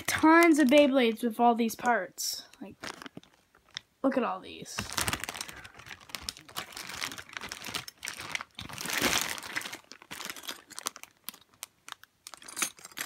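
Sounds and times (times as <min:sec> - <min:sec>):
plastic bag crinkling: 0:00.0 - 0:01.9, 0:02.6 - 0:03.8, 0:04.8 - 0:13.0.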